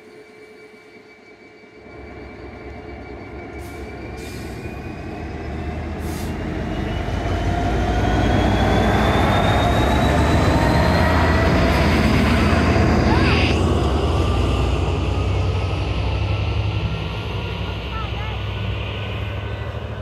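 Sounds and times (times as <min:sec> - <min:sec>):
diesel locomotive running past: 0:00.0 - 0:20.0
thin whine rising in pitch: 0:00.0 - 0:20.0.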